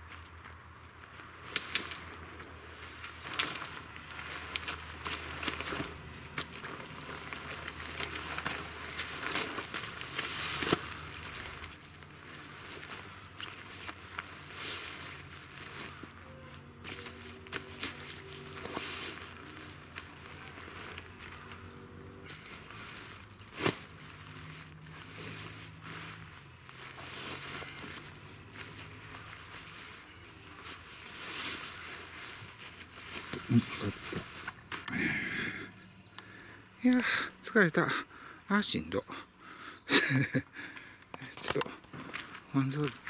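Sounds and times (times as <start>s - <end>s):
tent fabric rustling and crinkling: 0.0s - 35.2s.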